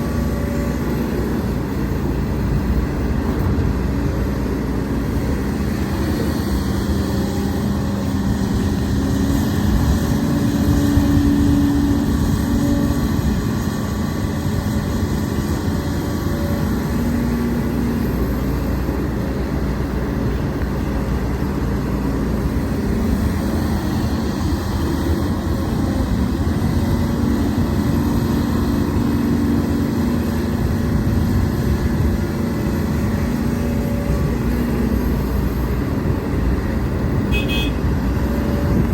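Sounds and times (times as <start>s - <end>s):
excavator engine and hydraulics: 0.0s - 38.9s.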